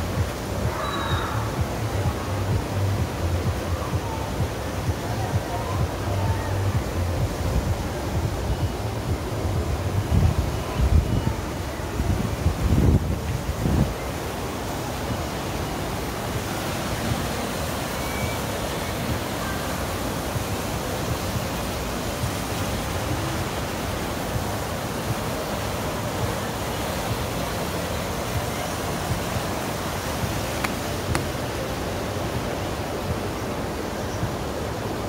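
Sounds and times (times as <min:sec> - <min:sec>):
wind blowing across microphone: 0:00.0 - 0:35.0.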